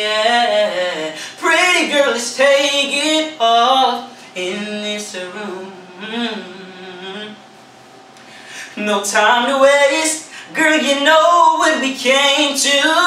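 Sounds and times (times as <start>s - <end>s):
man singing unaccompanied: 0.0s - 7.4s, 8.7s - 13.0s.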